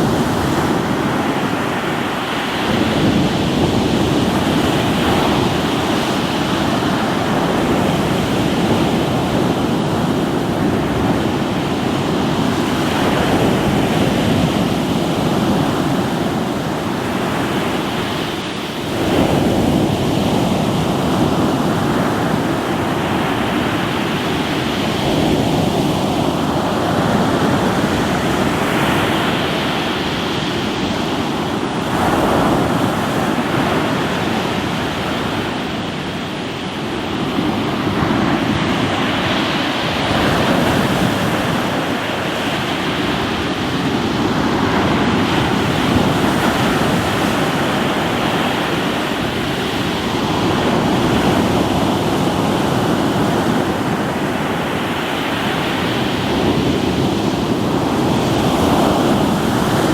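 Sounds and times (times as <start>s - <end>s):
waves breaking on rocky shore: 0.0s - 59.9s.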